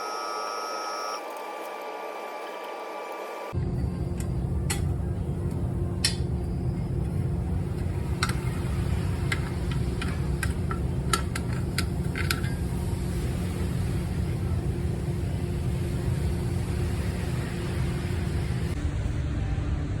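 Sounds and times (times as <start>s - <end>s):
road rumble inside car: 3.5s - 20.0s.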